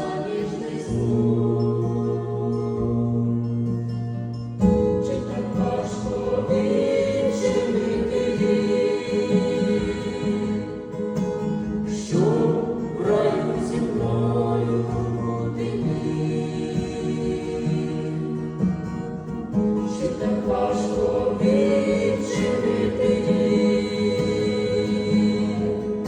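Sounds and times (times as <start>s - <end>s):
gospel choir singing: 0.0s - 26.0s.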